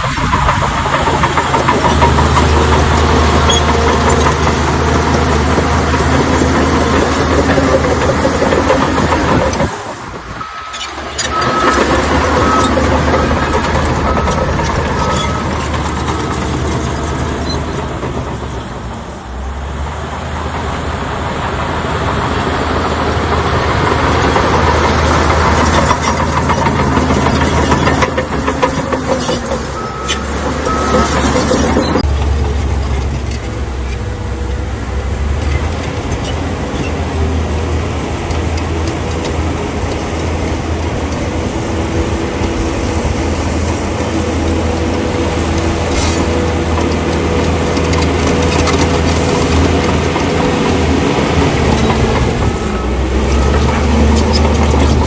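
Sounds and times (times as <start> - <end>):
bulldozer diesel engine: 0.0 - 55.0
clanking tracks and stone: 0.0 - 55.0.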